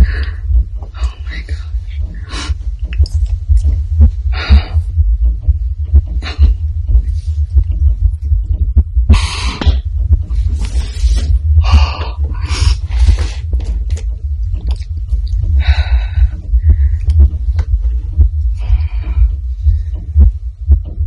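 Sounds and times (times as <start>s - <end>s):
amplified heartbeat thumping: 0.0s - 21.0s.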